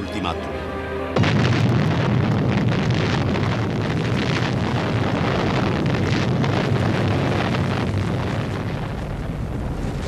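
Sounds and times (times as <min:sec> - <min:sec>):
bomb blast rumble: 0:01.2 - 0:10.0.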